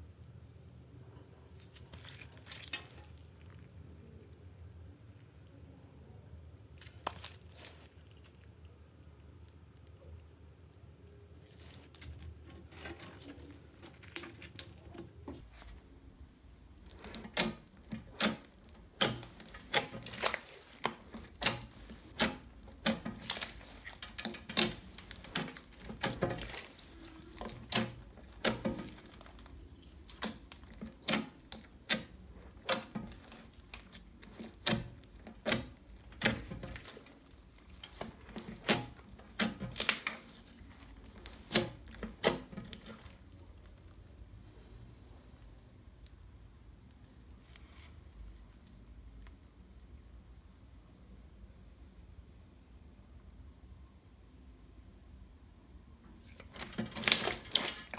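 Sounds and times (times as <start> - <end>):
sticky slime squishes: 0.0 - 50.2, 56.0 - 57.9.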